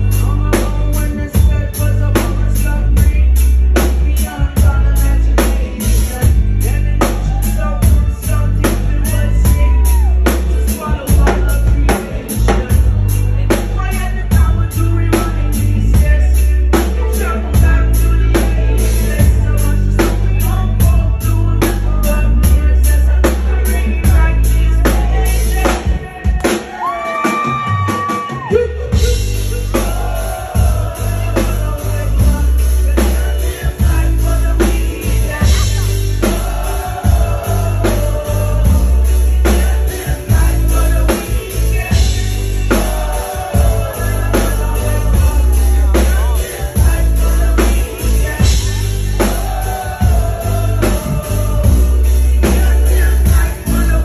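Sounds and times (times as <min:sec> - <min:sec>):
bass guitar: 0:00.0 - 0:54.0
drum kit: 0:00.0 - 0:54.0
lead singer on microphone: 0:00.0 - 0:54.0.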